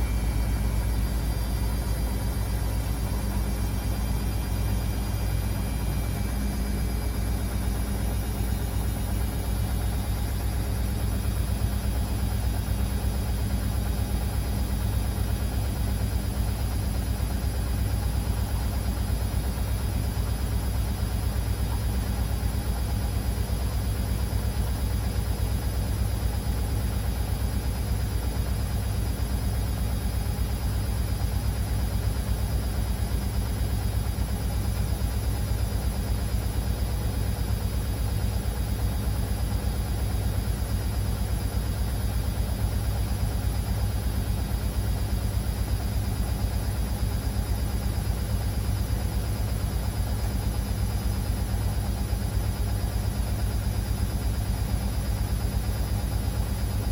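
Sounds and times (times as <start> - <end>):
washing machine running: 0.0 - 56.9.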